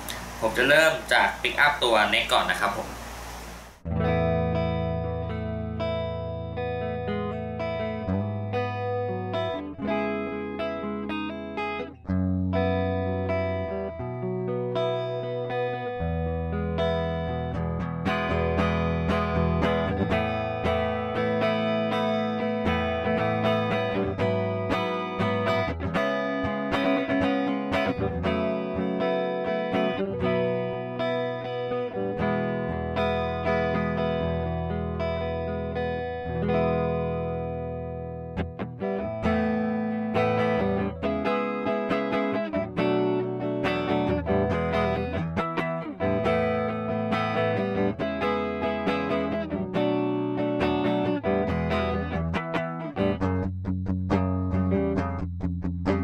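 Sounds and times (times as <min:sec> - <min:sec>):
electric guitar notes and chords: 0:00.0 - 0:56.0.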